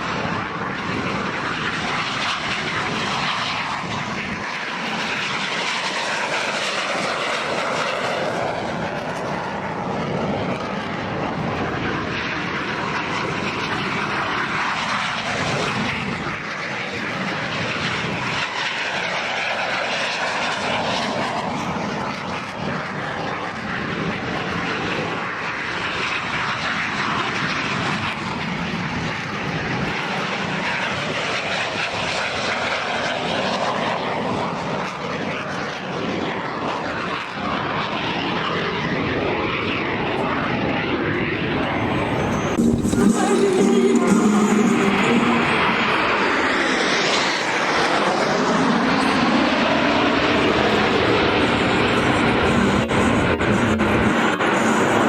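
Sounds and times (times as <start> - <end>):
jet engines passing: 0.0 - 55.0.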